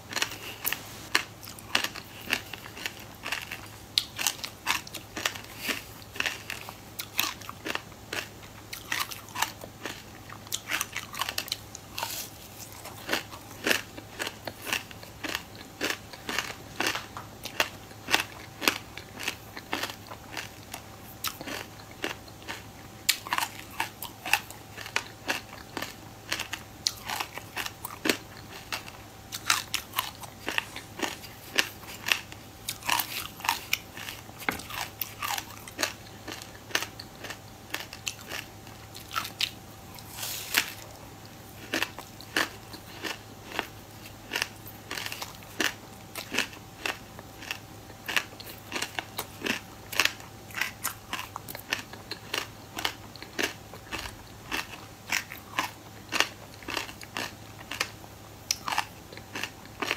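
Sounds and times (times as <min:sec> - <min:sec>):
crisp crunching of chewed grains: 0:00.0 - 0:59.9
faint steady hum: 0:00.0 - 0:59.9.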